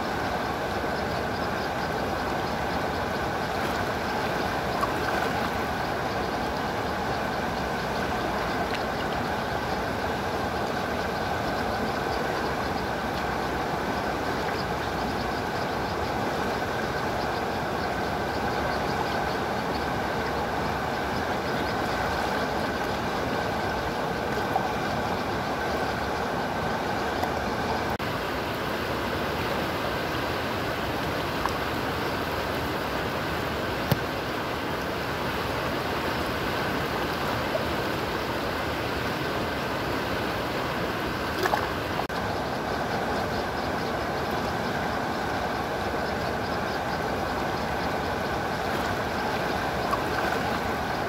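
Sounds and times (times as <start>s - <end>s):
water rushing over rocks: 0.0s - 51.0s.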